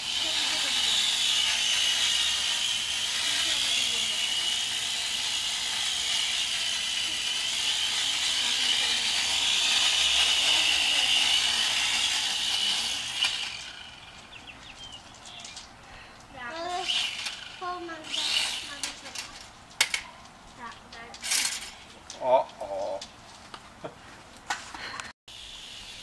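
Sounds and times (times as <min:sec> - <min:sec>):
toy quadcopter motors whining: 0:00.0 - 0:20.0, 0:20.6 - 0:21.9, 0:25.3 - 0:26.0.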